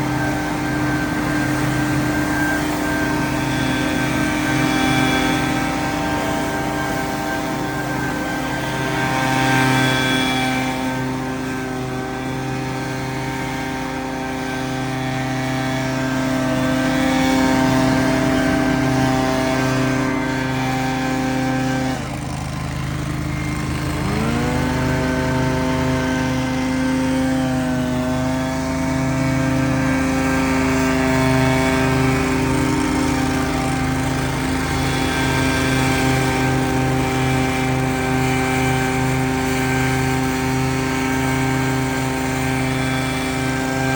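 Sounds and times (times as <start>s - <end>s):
engine running steadily: 0.0s - 43.9s.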